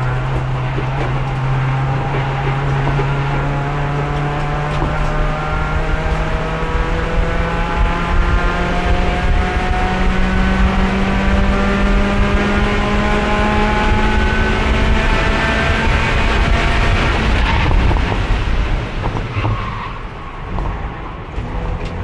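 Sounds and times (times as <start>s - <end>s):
race car engine accelerating: 0.0s - 19.8s
road and wind rumble: 0.0s - 22.0s.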